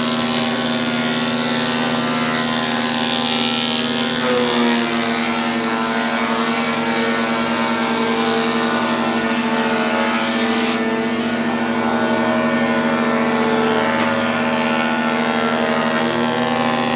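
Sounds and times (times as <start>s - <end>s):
spindle moulder droning hum: 0.0s - 16.9s.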